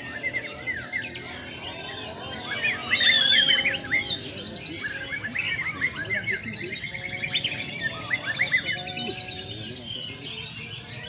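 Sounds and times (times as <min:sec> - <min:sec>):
birds singing whistles and chirps: 0:00.0 - 0:11.0.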